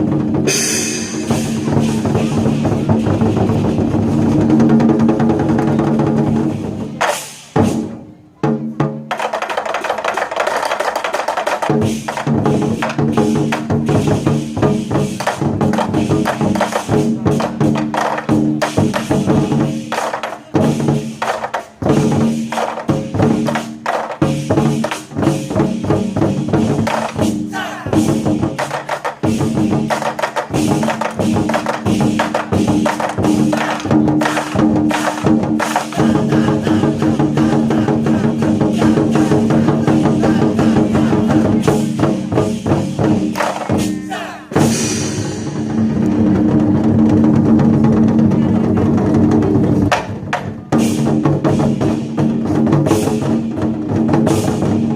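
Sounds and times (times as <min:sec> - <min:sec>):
war drums in fast rhythm: 0:00.0 - 0:54.9.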